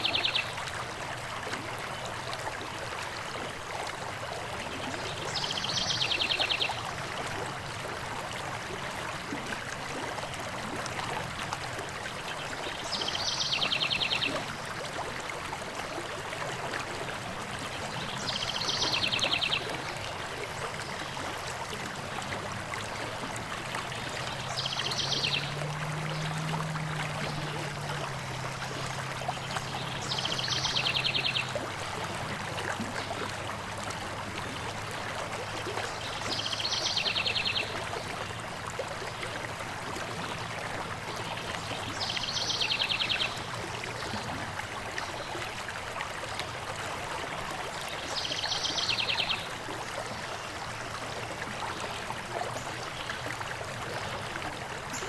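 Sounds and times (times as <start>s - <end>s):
stream flowing: 0.0s - 55.0s.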